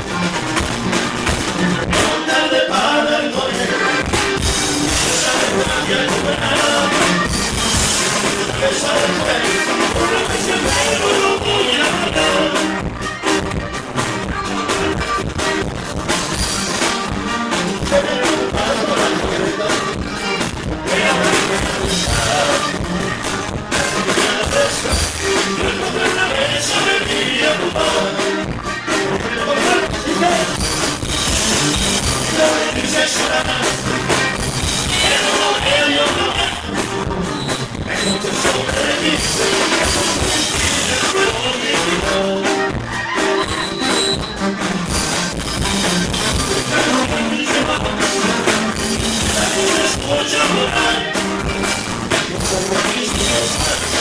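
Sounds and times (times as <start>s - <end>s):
live rock band playing: 0.0s - 54.0s
person singing: 1.9s - 13.4s, 17.6s - 30.8s, 31.4s - 36.9s, 37.8s - 43.9s, 46.2s - 54.0s.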